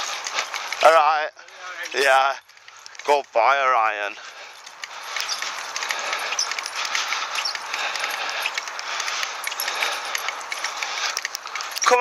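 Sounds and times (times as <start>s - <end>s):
metallic clinks and rattles: 0.0s - 12.0s.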